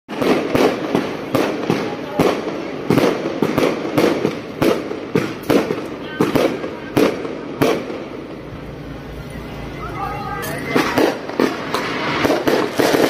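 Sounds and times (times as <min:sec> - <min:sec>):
crackling hiss: 0:00.1 - 0:13.0
firework bangs: 0:00.1 - 0:13.0.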